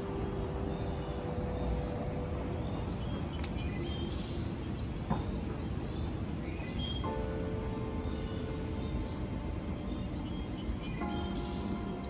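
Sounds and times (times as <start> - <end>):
soft sustained music notes: 0.0 - 12.0.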